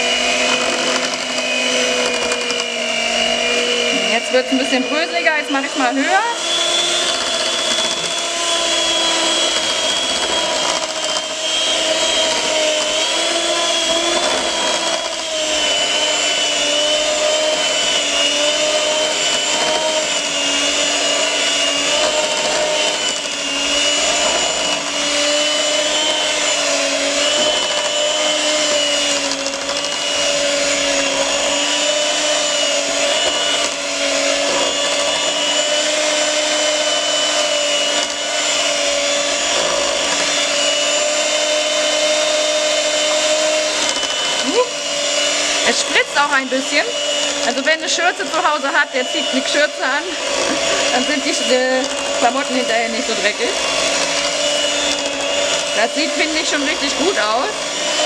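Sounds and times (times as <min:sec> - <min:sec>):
electric mixer motor whine: 0:00.0 - 0:58.0.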